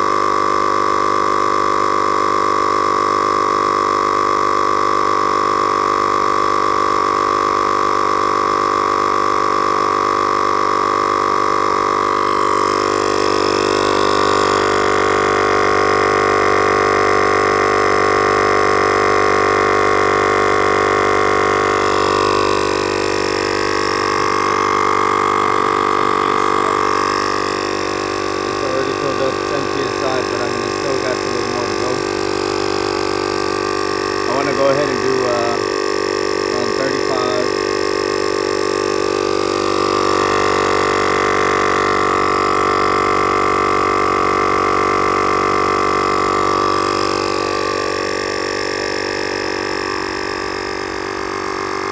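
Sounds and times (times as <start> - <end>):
air compressor running: 0.0 - 51.9.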